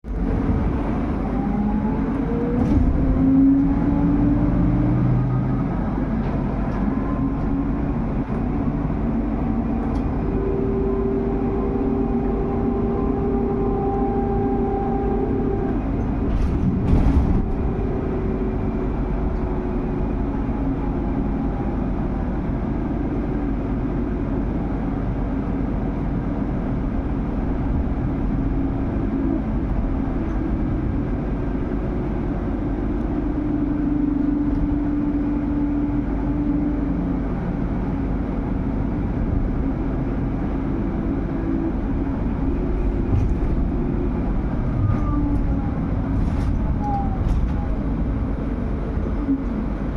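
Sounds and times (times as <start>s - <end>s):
bus road and running noise: 0.0s - 49.9s.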